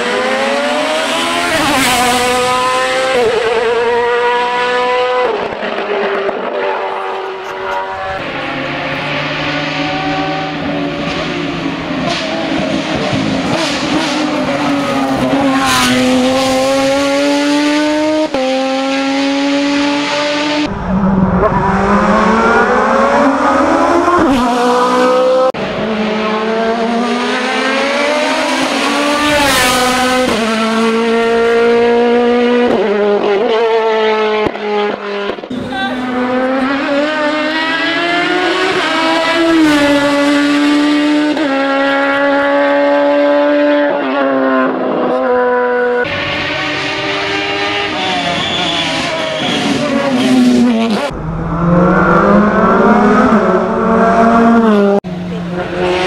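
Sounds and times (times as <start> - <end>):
racing car engines upshifting: 0.0 - 56.0.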